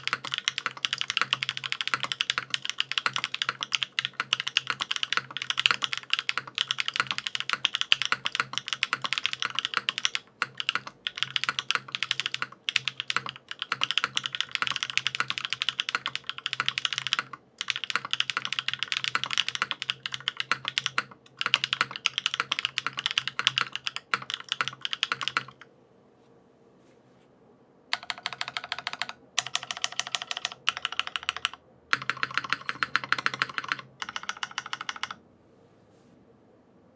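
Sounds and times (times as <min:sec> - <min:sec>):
mechanical keyboard typing: 0:00.0 - 0:25.7, 0:27.9 - 0:35.2.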